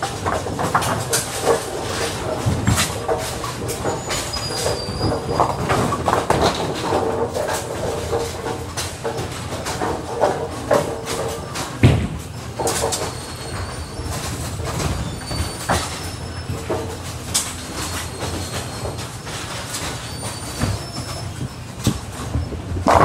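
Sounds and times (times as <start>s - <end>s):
bowling pins clacking: 0.0s - 23.0s
rumble of rolling bowling balls: 0.0s - 23.0s.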